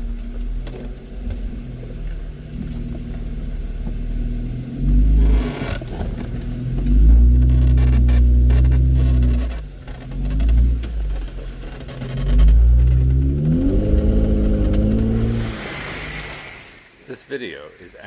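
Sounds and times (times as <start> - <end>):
off-road vehicle engine revving: 0.0 - 16.6.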